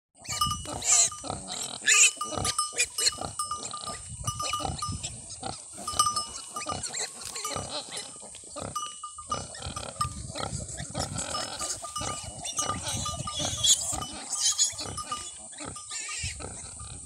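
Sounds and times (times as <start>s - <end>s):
pigs grunting: 0.2s - 17.0s.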